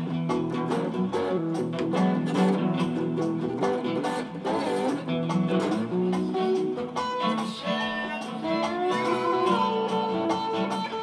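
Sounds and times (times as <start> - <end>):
acoustic guitar blues: 0.0 - 11.0
slide guitar: 0.0 - 11.0.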